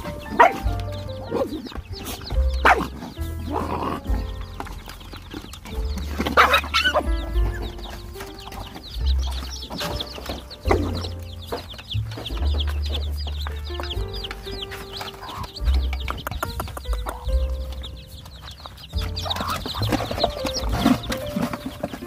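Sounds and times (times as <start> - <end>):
background music with bass line: 0.0 - 22.0
chicks peeping: 0.0 - 22.0.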